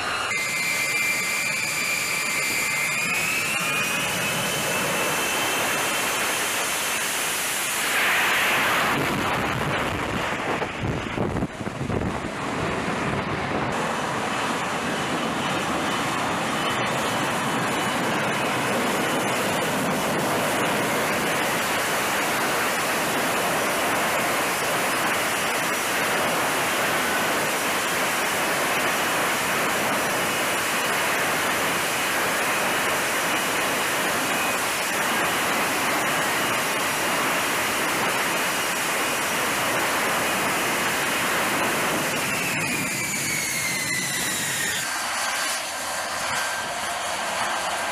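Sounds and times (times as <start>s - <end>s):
faint turbine whine: 0.0s - 47.9s
jet engine roar: 0.0s - 47.9s.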